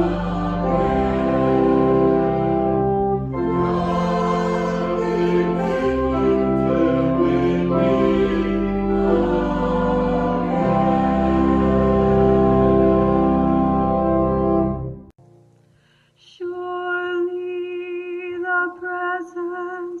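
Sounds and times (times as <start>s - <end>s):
slow church music: 0.0s - 19.4s.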